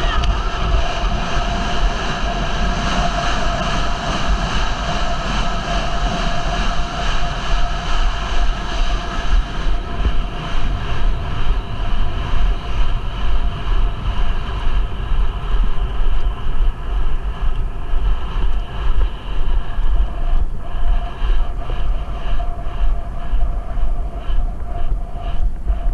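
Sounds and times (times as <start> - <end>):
wind on microphone: 0.0 - 25.9.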